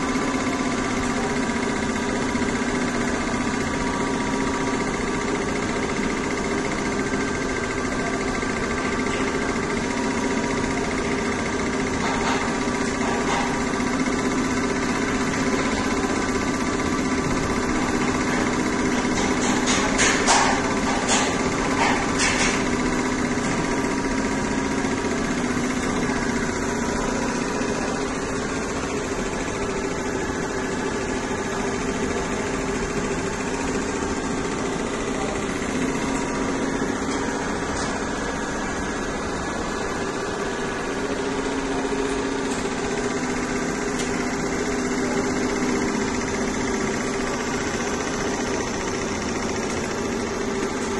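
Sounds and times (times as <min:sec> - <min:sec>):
embroidery machine stitching: 0:00.0 - 0:50.9.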